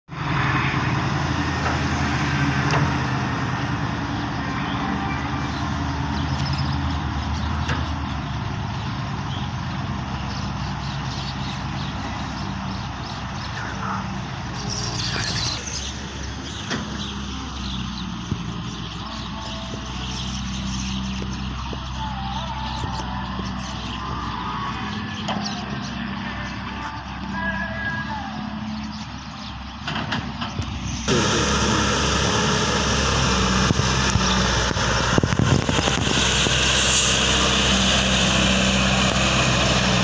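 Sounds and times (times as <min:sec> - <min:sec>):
diesel truck engines running: 0:00.1 - 0:40.0.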